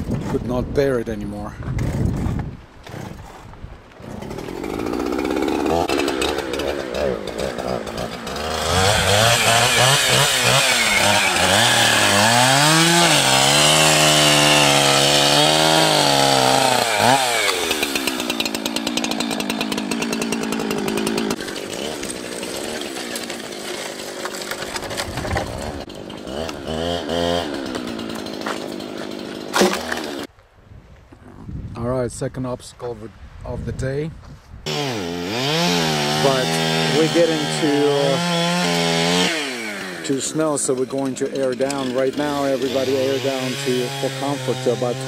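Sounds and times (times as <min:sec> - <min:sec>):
chainsaw cutting wood: 0:01.7 - 0:30.3, 0:34.7 - 0:45.0.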